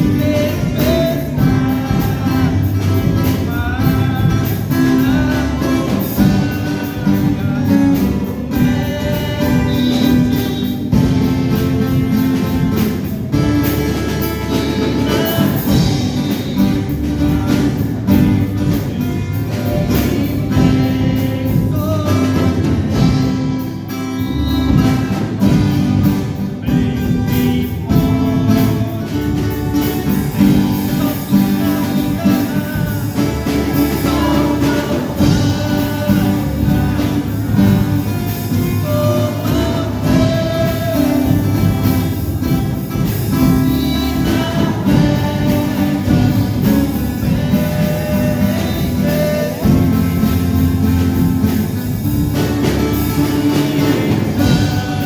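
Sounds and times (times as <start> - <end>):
guitar accompaniment: 0.0 - 55.0
person singing a hymn: 0.0 - 55.0.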